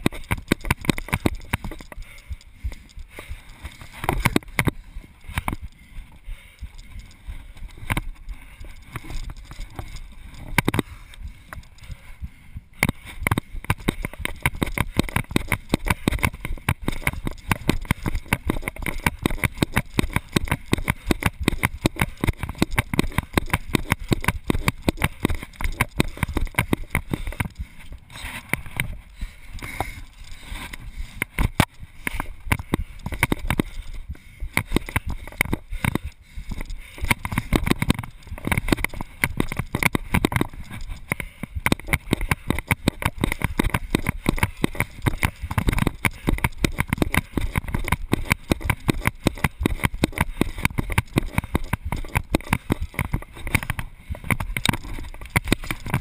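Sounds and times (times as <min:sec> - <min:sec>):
footsteps and scuffs on rooftops: 0:00.0 - 0:56.0.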